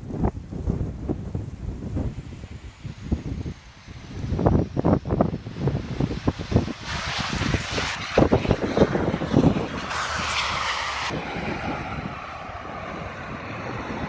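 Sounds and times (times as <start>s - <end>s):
turboprop airliner roar: 0.0s - 14.0s
wind buffeting microphone: 0.0s - 14.0s.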